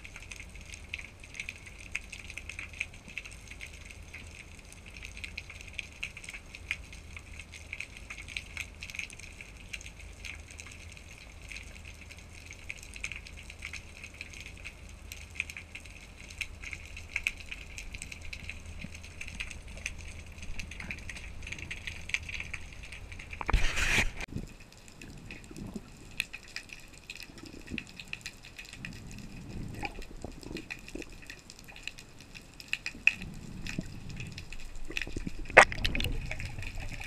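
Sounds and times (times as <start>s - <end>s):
underwater crackle of clicks: 0.0s - 37.0s.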